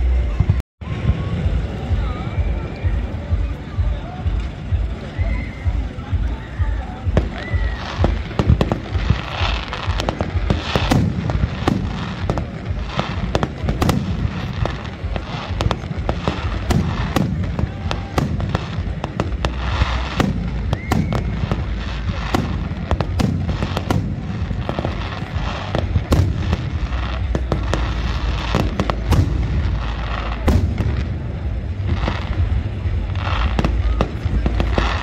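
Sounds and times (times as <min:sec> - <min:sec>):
continuous low rumble: 0:00.0 - 0:35.0
fireworks bangs and crackling: 0:00.0 - 0:35.0.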